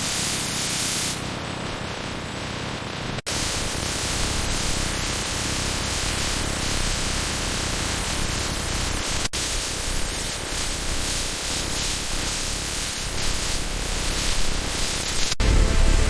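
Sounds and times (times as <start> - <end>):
static-like hiss: 0.0 - 16.0.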